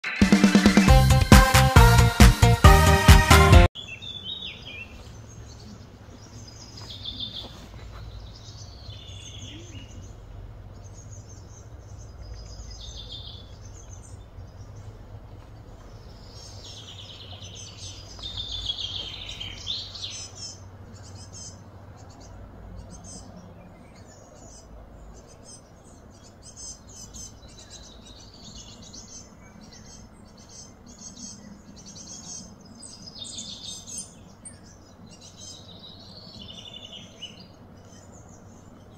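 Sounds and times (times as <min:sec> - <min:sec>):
low hum of outdoor background: 0:03.7 - 0:38.9
wild birds chirping: 0:03.7 - 0:38.9.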